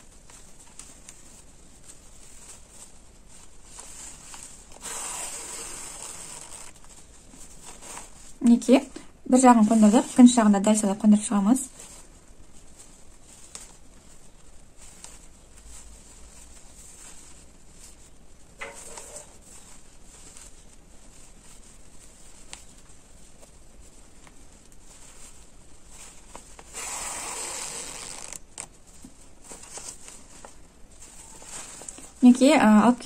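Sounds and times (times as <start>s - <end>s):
fabric rustling: 0.0s - 33.0s.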